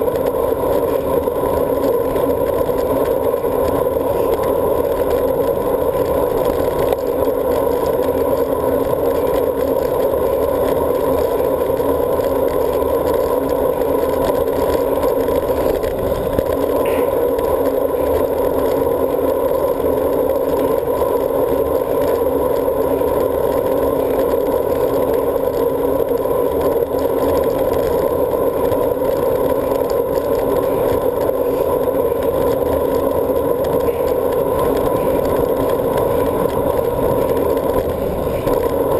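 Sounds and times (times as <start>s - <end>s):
bike tyre road buzz: 0.0s - 38.9s.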